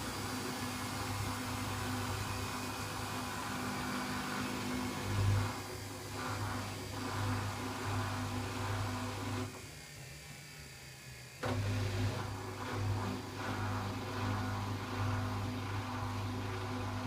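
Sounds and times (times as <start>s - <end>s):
washing machine motor humming: 0.0s - 17.0s.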